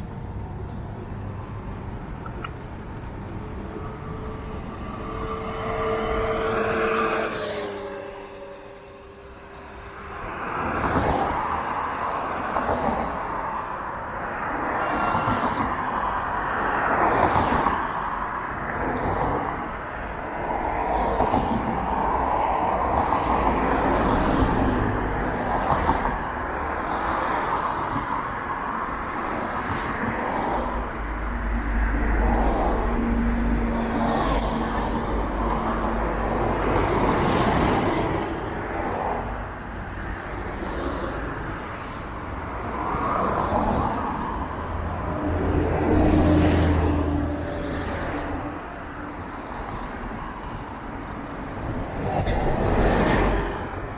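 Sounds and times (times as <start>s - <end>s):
cars passing: 0.0s - 53.9s.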